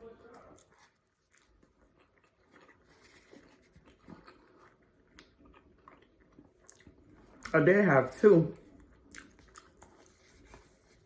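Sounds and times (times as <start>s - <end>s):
person chewing food: 0.0s - 7.7s, 8.5s - 11.0s.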